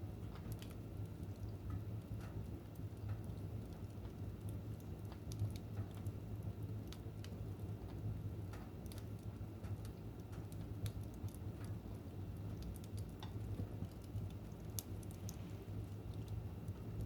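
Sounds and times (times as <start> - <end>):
fire crackling in a fireplace: 0.0 - 17.0.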